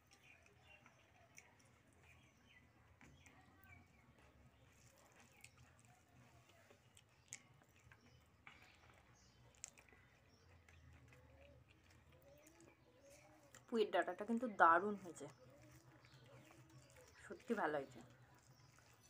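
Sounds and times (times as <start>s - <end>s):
faint chewing: 0.0s - 19.0s
fingers mixing rice on a plate: 0.0s - 19.0s.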